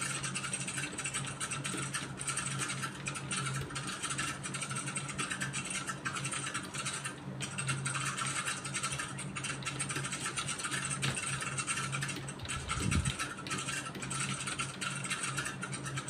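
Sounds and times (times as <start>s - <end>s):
keyboard typing clatter: 0.0s - 16.0s
steady low hum: 0.0s - 16.0s.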